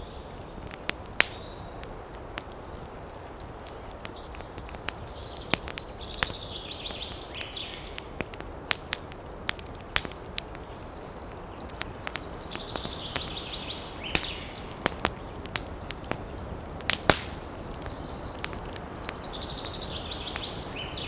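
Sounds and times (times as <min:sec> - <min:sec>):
bird chirping: 0:00.0 - 0:08.1, 0:10.6 - 0:16.5, 0:17.2 - 0:21.0
forest ambience hiss: 0:00.0 - 0:21.0
wood fire crackling: 0:00.0 - 0:21.0.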